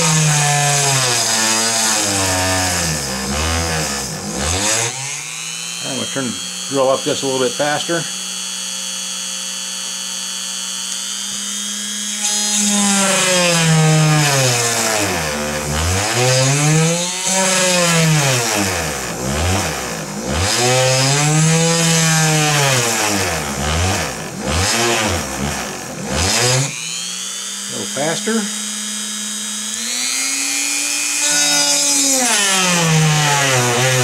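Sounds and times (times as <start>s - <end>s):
rotary tool drilling plastic: 0.0s - 34.0s.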